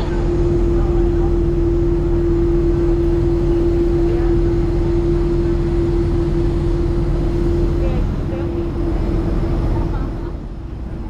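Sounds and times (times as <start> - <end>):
jet airliner humming: 0.0 - 11.0
low rumble: 0.0 - 11.0.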